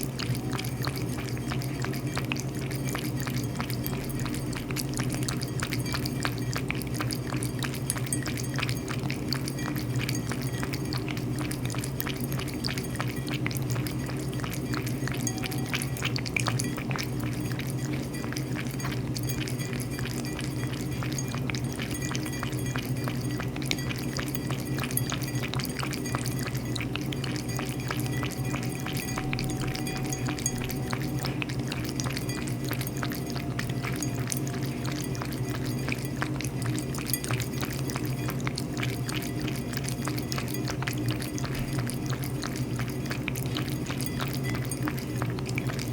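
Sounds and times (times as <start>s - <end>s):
cat lapping water: 0.0s - 45.9s
steady low hum: 0.0s - 45.9s.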